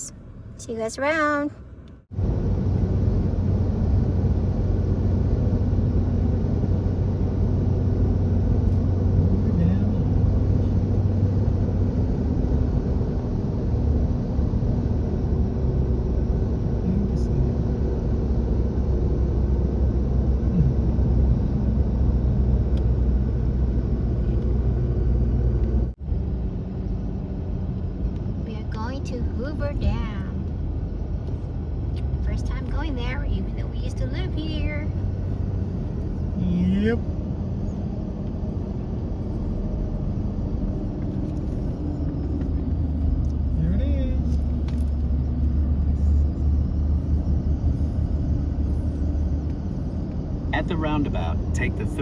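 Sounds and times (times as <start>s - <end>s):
car driving interior drone: 0.0s - 52.0s.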